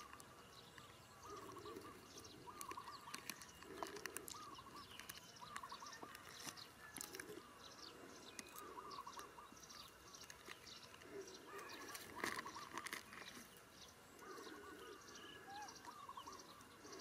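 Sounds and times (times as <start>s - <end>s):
faint bird calls: 0.0s - 17.0s.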